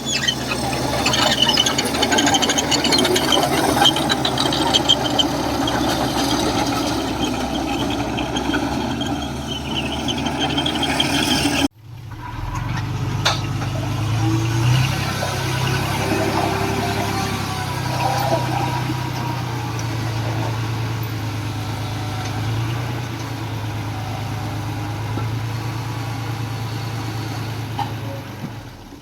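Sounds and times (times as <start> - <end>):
diesel machinery engine running: 0.0 - 29.0.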